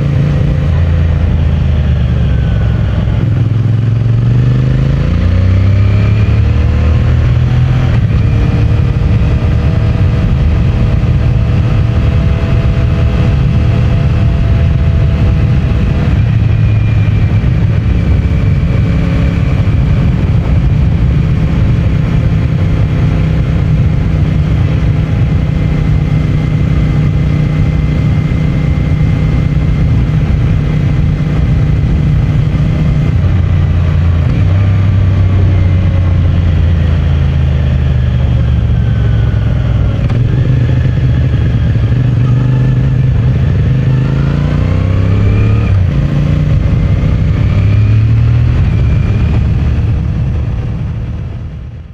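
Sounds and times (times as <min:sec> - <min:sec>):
motorcycle engine running: 0:00.0 - 0:51.9
road and wind noise: 0:00.0 - 0:51.9.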